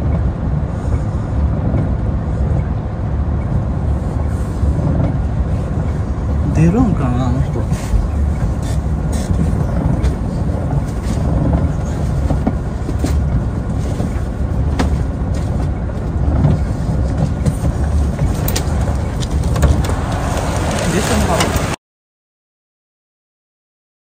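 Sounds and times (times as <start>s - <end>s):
diesel engine idling: 0.0s - 21.8s
heavy rain on truck cab: 0.0s - 21.8s.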